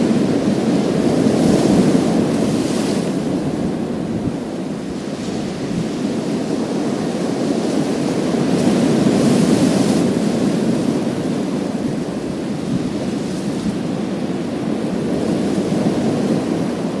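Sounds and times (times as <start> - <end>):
waves breaking on pebble beach: 0.0 - 17.0.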